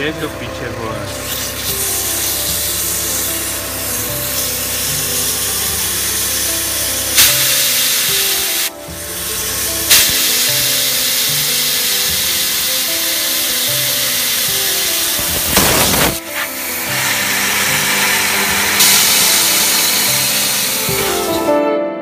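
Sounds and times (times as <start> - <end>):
music: 0.0 - 22.0
abrasive pad scraping brake disc: 0.7 - 21.5.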